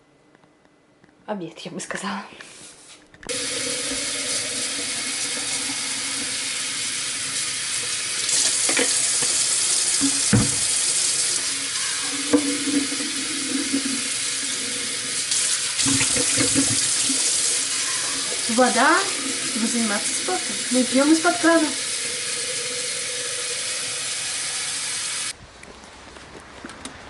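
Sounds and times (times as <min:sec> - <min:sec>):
tap water filling bottles: 0:03.3 - 0:25.3.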